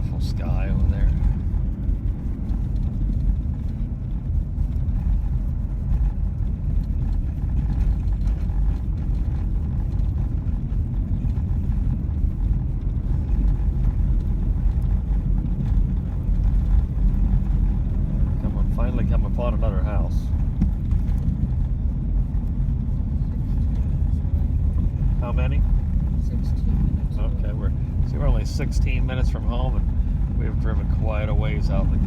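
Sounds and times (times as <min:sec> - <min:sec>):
car engine and tyre noise: 0:00.0 - 0:32.0.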